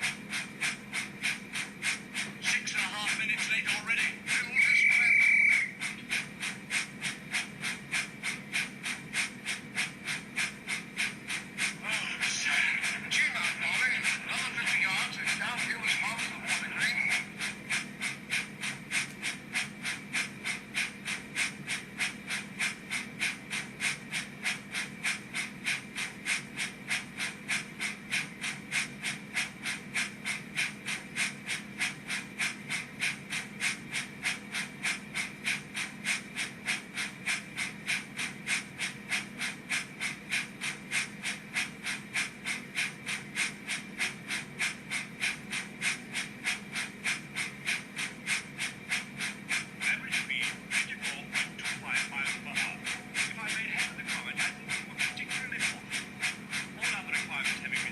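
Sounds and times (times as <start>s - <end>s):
model steam locomotive chuffing: 0.0s - 57.9s.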